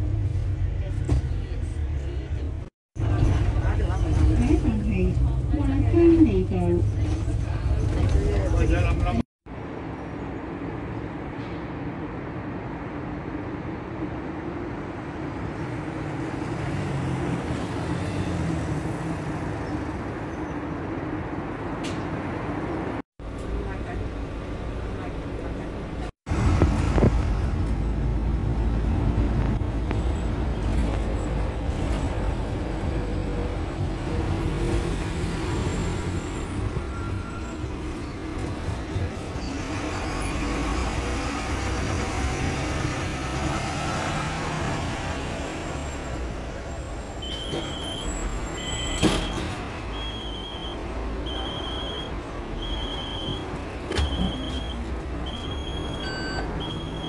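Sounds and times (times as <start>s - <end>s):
minibus engine and road rumble: 0.0s - 57.0s
street traffic: 0.0s - 57.0s.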